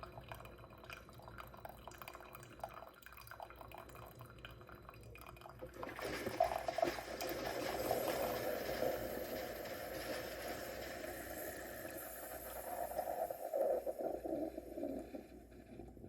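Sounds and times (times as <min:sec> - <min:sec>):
coffee dripping into a cup: 0:00.0 - 0:16.0
coffee maker brewing: 0:00.0 - 0:16.0.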